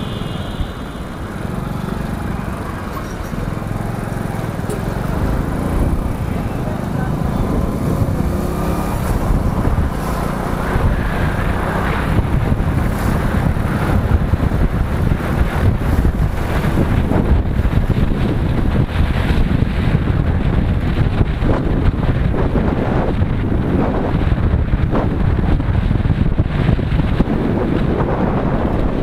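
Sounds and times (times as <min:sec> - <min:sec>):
motorcycle engine: 0:00.0 - 0:29.0
road traffic: 0:00.0 - 0:29.0
wind buffeting microphone: 0:00.0 - 0:29.0.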